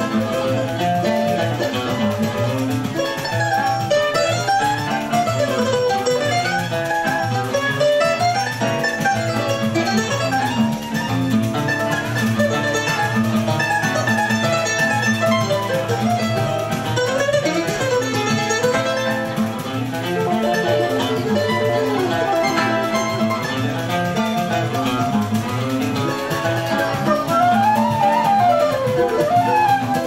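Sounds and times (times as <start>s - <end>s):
acoustic guitar chords: 0.0s - 30.0s
mandolin melody: 0.0s - 30.0s.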